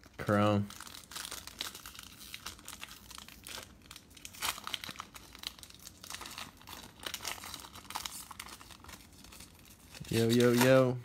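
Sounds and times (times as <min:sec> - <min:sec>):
foil wrappers crinkling and tearing: 0:00.0 - 0:11.0.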